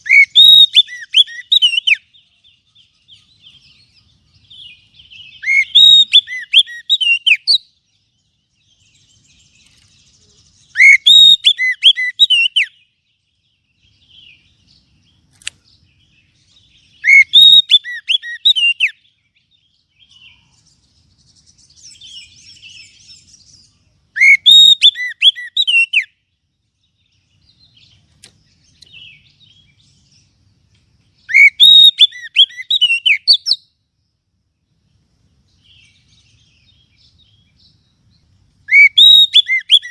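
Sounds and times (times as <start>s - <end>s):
bird whistling song: 0.0s - 30.4s, 31.1s - 33.8s, 35.5s - 39.9s.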